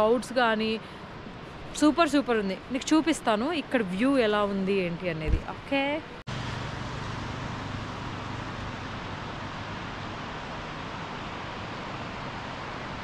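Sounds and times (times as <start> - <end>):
road and wind noise: 0.0 - 13.0
vehicle engine hum: 0.0 - 13.0.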